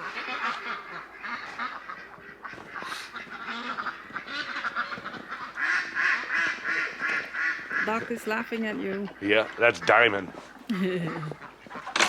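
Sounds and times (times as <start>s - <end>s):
duck rapid laughing quacks: 0.0s - 8.1s, 9.0s - 11.9s
ducks quacking: 0.0s - 12.0s.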